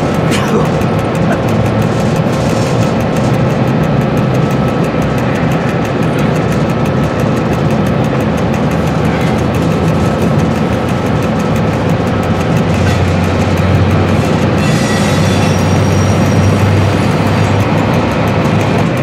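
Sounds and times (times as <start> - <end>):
locomotive diesel engine running: 0.0 - 19.0.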